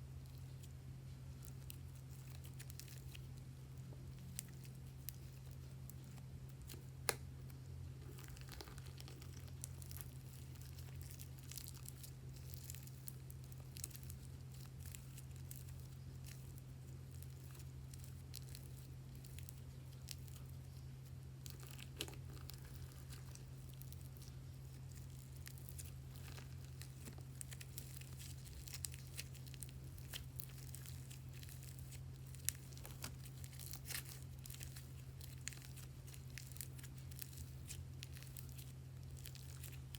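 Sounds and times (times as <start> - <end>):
steady low hum: 0.0 - 39.9
slime crackling and popping: 1.4 - 3.4, 4.0 - 39.9.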